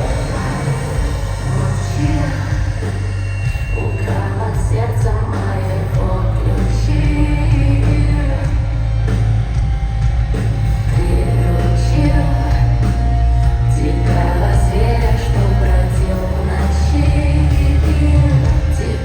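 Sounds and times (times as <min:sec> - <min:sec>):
person singing: 0:00.0 - 0:08.8, 0:10.9 - 0:19.0
heavy bass: 0:00.0 - 0:19.0
live rock band playing: 0:00.0 - 0:19.0.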